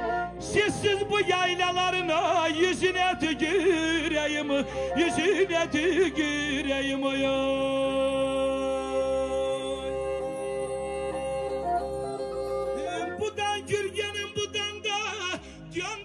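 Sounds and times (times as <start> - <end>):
man singing through microphone: 0.0 - 11.7, 12.8 - 16.0.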